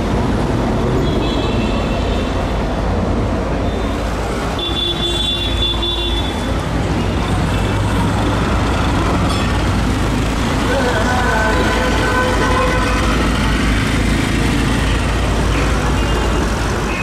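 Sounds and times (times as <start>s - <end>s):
street traffic: 0.0s - 17.0s
tram rumbling: 0.0s - 17.0s.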